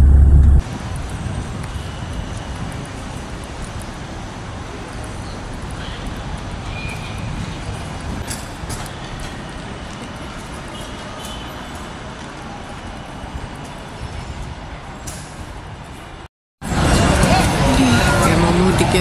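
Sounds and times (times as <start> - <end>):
terminal hall rumble and hiss: 0.0 - 19.0.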